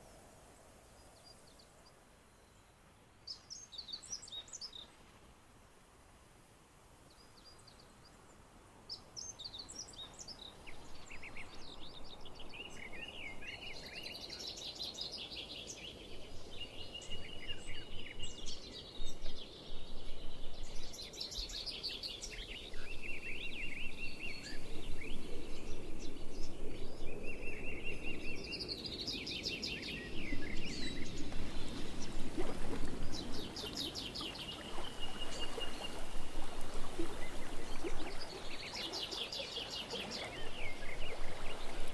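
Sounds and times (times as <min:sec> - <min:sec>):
songbirds singing: 0:00.9 - 0:05.0, 0:07.1 - 0:41.9.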